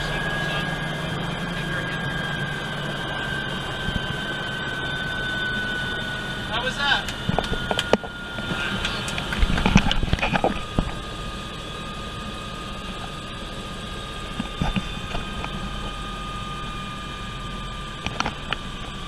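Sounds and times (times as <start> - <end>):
helicopter turbine whine: 0.0 - 19.0.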